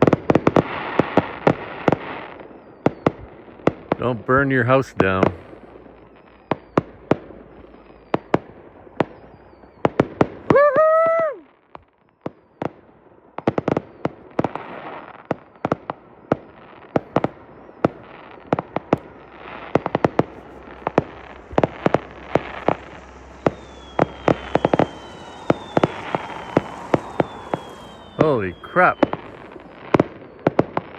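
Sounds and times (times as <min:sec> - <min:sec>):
fireworks bangs: 0:00.0 - 0:30.9
fireworks crackle: 0:00.0 - 0:30.9.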